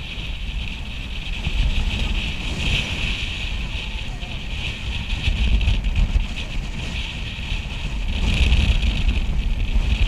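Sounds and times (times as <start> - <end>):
surf breaking on rocks: 0.0 - 10.0
wind buffeting microphone: 0.0 - 10.0.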